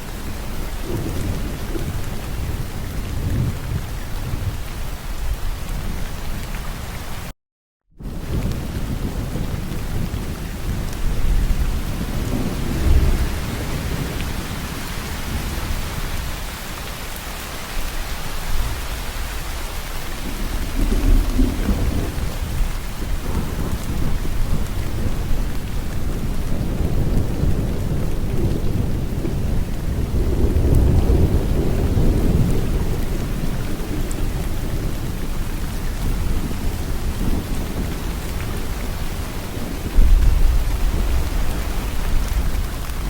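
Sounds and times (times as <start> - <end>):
steady rain falling: 0.0 - 7.3, 8.0 - 43.0.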